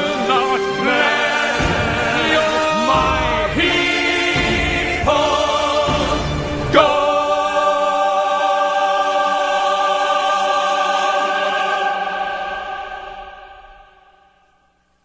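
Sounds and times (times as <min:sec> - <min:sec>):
choir holding a chord: 0:00.0 - 0:14.7.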